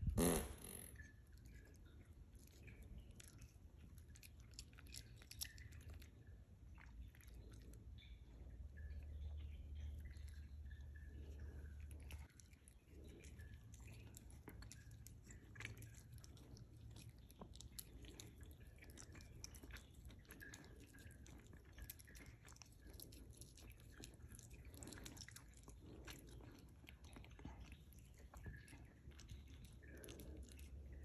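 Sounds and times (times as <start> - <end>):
dog chewing: 0.9 - 31.0.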